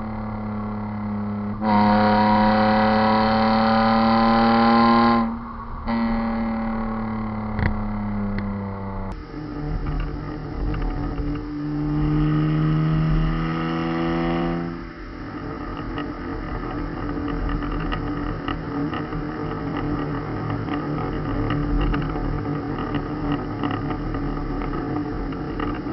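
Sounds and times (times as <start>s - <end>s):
car engine revving: 0.0s - 25.9s
exhaust pops and crackles: 0.0s - 25.9s.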